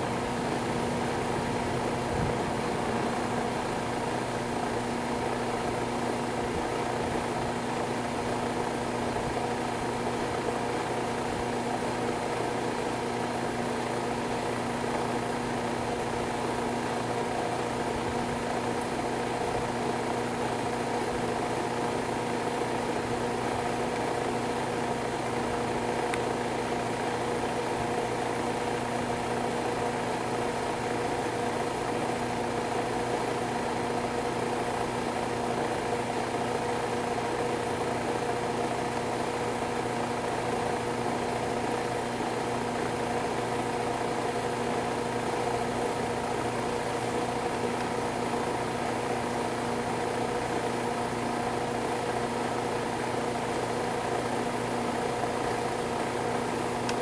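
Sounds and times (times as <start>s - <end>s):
steady machine hum: 0.0s - 57.0s.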